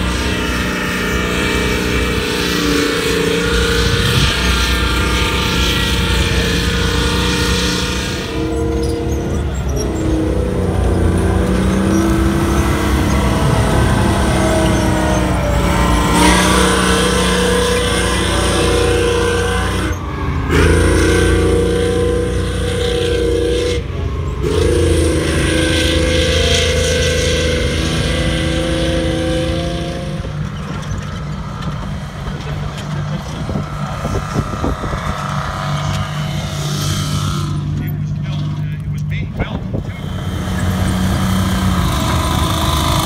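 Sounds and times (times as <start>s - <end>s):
running gear whine: 0.0s - 43.0s
tank engine noise: 0.0s - 43.0s.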